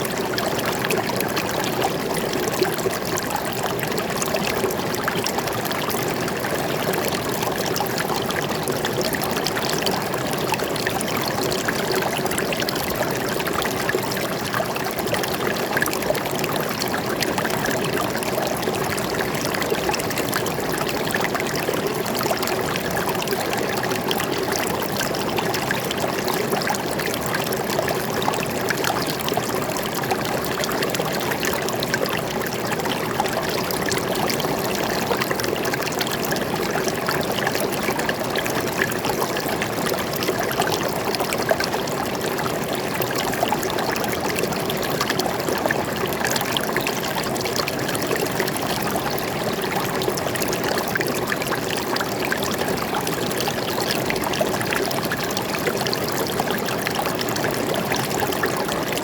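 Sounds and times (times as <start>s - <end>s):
stream water over rocks: 0.0s - 59.0s.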